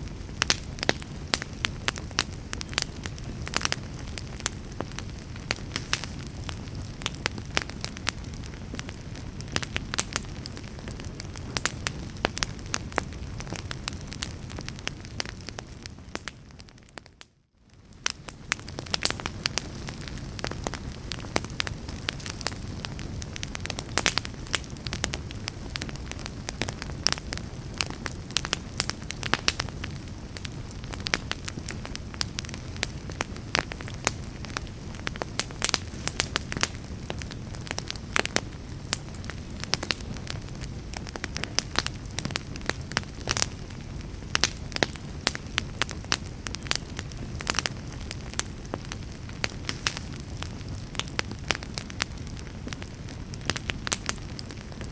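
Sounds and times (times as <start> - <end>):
low rumble of flames: 0.0 - 54.9
burning wood snapping: 0.4 - 17.0, 18.0 - 54.9.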